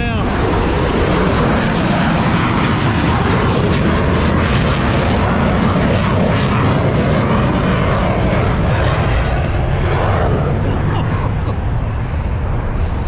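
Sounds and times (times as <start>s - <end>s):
aircraft engine noise: 0.0s - 13.0s.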